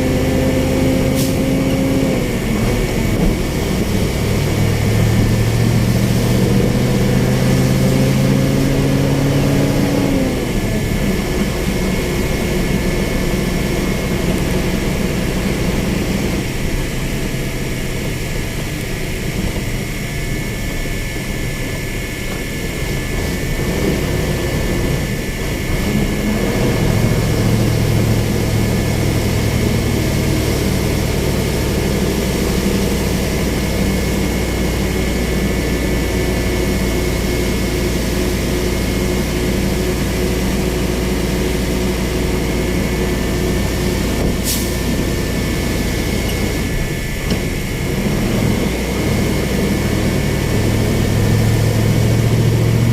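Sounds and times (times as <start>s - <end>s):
baler engine drone: 0.0s - 52.9s
high whine: 0.0s - 52.9s.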